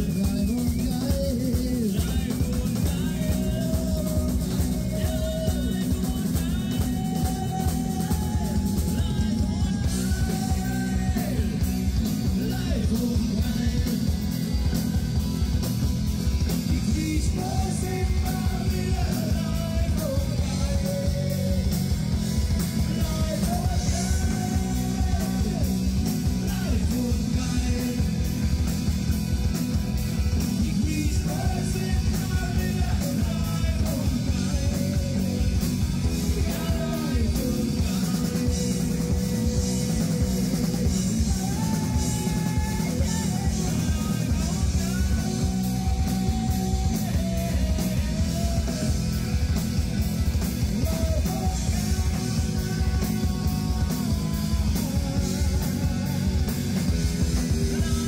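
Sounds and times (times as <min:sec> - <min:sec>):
person singing: 0:00.0 - 0:15.0, 0:16.4 - 0:28.8, 0:30.3 - 0:58.0
live rock band: 0:00.0 - 0:58.0.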